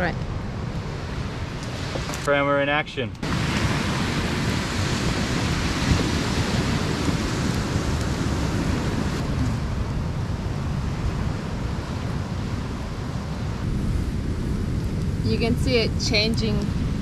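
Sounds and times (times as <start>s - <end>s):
wind buffeting microphone: 0.0s - 17.0s
surf washing on beach: 0.5s - 17.0s.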